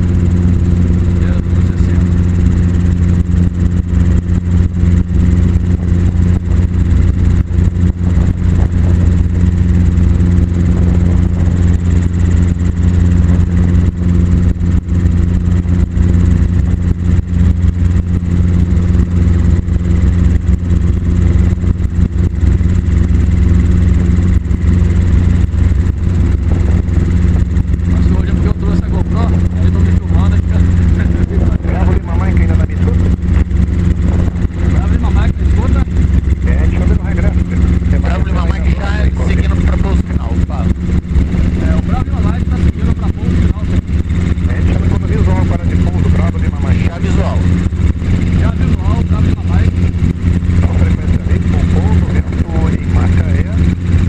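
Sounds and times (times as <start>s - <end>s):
helicopter drone from cabin: 0.0s - 54.0s.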